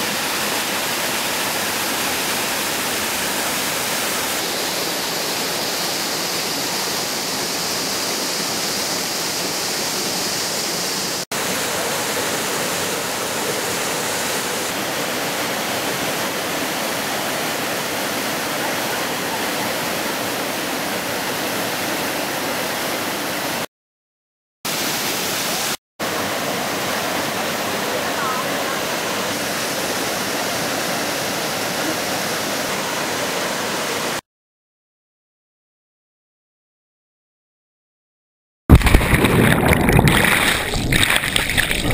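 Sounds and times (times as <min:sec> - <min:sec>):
waterfall rushing into pool: 0:00.0 - 0:23.7, 0:24.7 - 0:34.2, 0:38.7 - 0:41.9.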